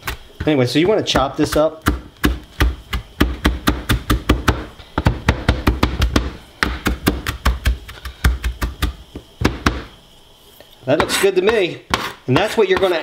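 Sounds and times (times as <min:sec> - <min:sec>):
knife chopping on cutting board: 0:00.0 - 0:09.9, 0:11.0 - 0:13.0.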